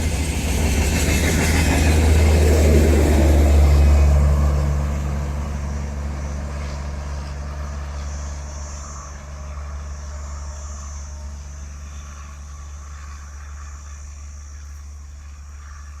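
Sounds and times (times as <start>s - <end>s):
passing train rumble: 0.0s - 16.0s.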